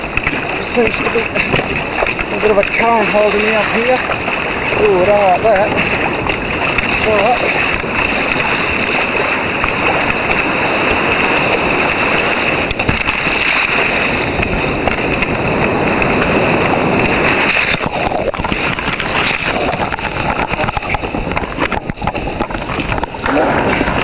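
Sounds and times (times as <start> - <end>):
surf breaking: 0.0 - 24.0
water rushing and splashing: 0.0 - 24.0
water washing over camera: 0.0 - 24.0
wind buffeting microphone: 0.0 - 24.0.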